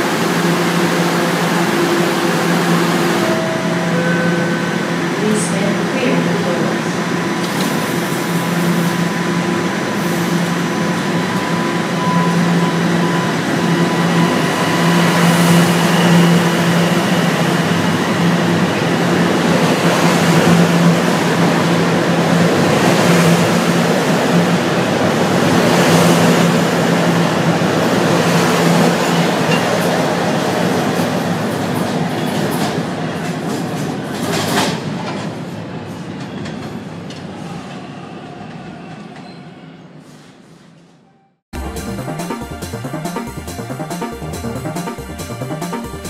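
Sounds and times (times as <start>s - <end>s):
subway train motors humming: 0.0s - 40.8s, 41.6s - 46.0s.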